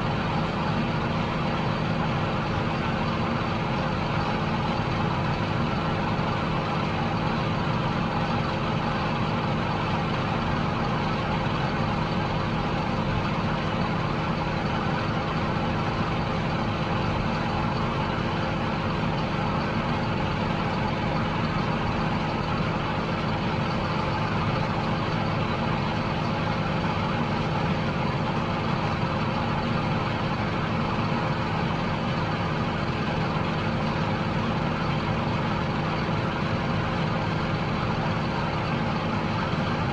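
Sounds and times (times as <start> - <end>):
harvester diesel engine running: 0.0 - 39.9.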